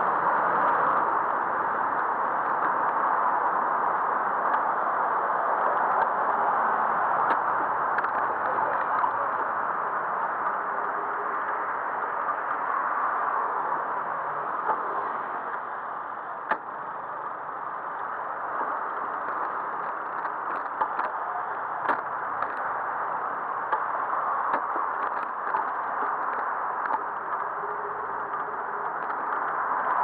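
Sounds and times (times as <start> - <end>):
street traffic rush: 0.0 - 30.0.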